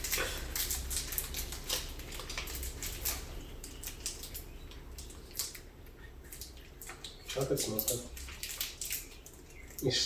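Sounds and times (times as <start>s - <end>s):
chocolate wrapper crinkling: 0.0s - 10.0s.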